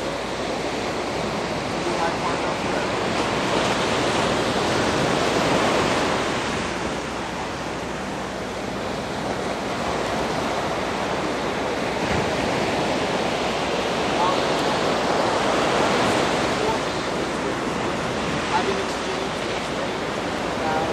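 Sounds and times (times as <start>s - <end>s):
surf washing onto beach: 0.0s - 20.9s.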